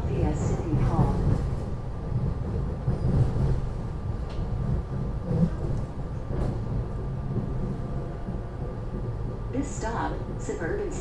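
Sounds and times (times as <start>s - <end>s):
train car low rumble: 0.0s - 11.0s.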